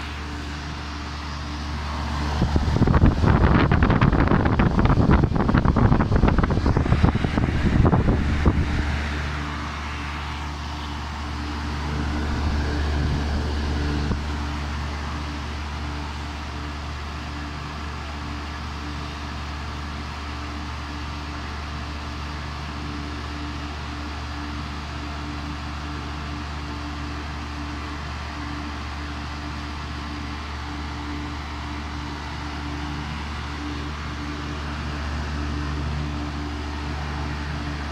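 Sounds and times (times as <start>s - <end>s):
air conditioner unit humming: 0.0s - 37.9s
fan air buffeting microphone: 0.0s - 37.9s.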